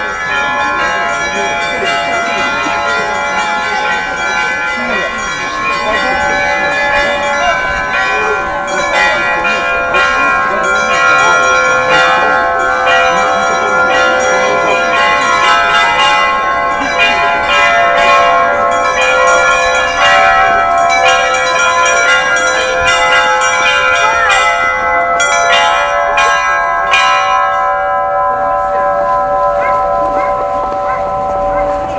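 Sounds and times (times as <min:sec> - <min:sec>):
large bells ringing: 0:00.0 - 0:31.9
small bells chiming rapidly: 0:00.0 - 0:31.9.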